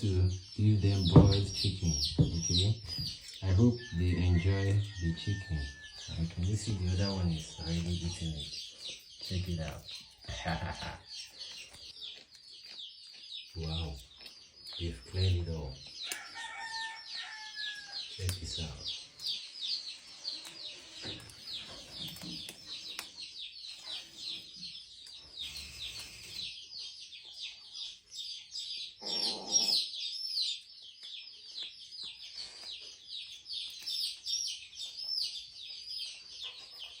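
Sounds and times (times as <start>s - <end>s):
baby chicks peeping: 0.0s - 37.0s.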